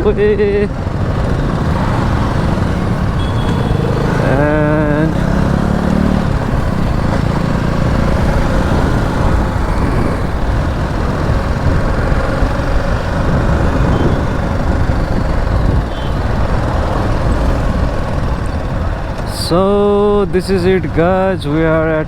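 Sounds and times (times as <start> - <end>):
motorcycle engine: 0.0 - 21.2
wind rushing on microphone: 0.0 - 21.2
road traffic: 0.0 - 22.0.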